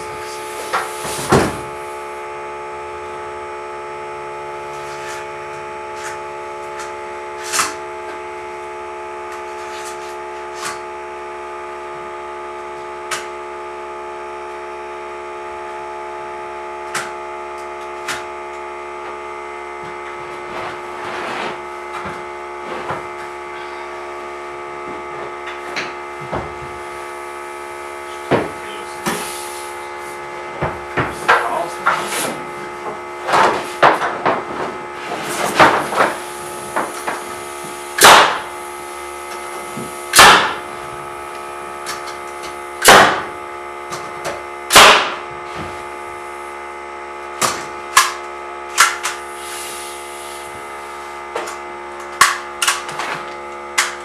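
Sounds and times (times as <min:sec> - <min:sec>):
electric hum: 0:00.0 - 0:54.0.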